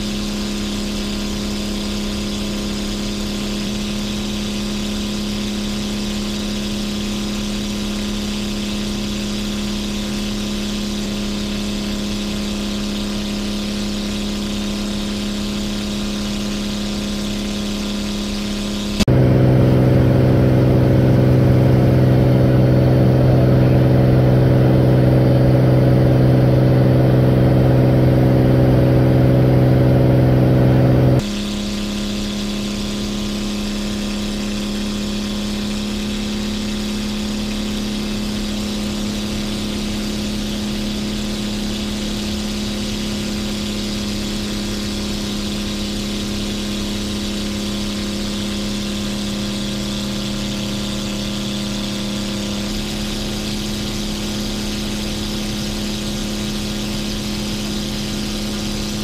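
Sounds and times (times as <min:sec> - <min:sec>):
aircraft engine drone: 0:00.0 - 0:59.0
deeper aircraft engine drone: 0:00.0 - 0:59.0.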